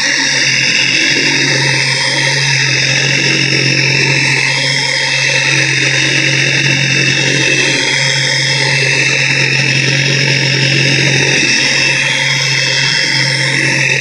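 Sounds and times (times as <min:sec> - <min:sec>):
polisher humming: 0:00.0 - 0:14.0.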